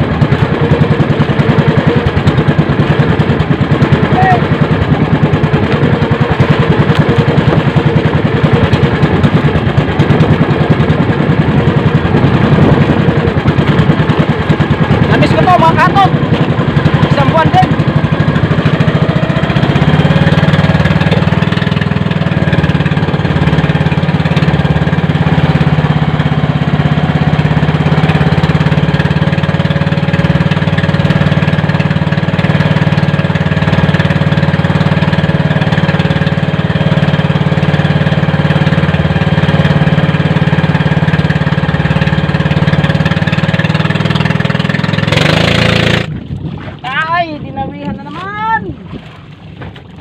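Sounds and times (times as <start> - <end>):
motorboat engine running: 0.0 - 50.0.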